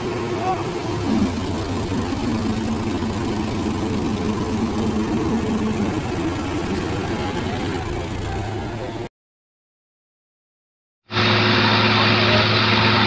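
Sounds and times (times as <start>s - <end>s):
tractor engines under load: 0.0s - 9.1s, 11.1s - 13.0s.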